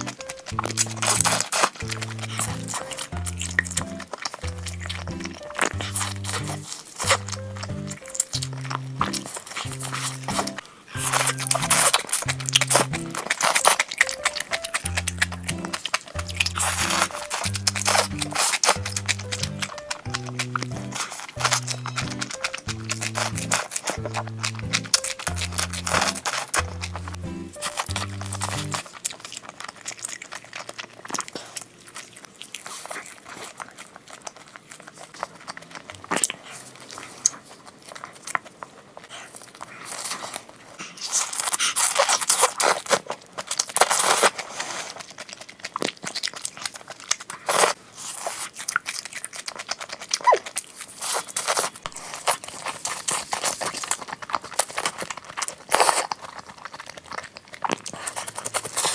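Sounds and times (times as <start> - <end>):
crunching and chewing fried food: 0.0 - 58.9.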